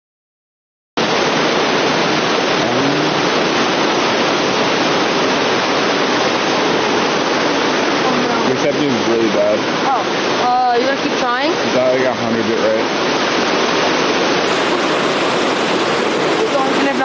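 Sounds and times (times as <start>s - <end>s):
waterfall rushing: 1.0s - 17.0s.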